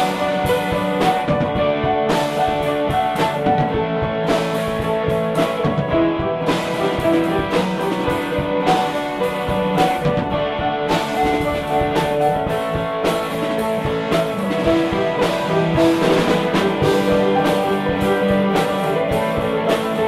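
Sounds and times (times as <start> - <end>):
rock music: 0.0 - 20.0.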